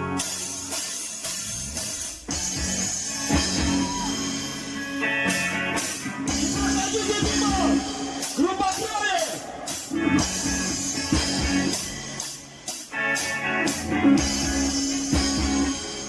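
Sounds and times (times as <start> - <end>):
live rock band: 0.0 - 16.0.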